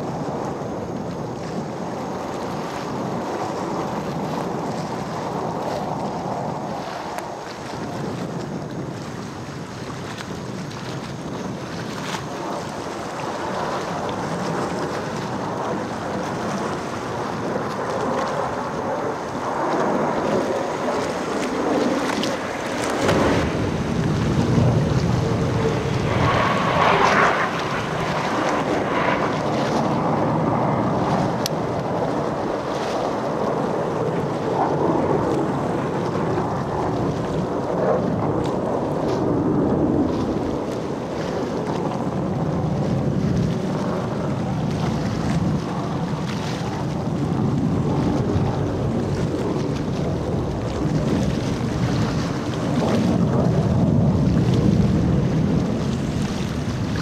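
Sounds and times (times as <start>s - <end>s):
jet engines roaring overhead: 0.0s - 57.0s
wind buffeting microphone: 0.0s - 57.0s.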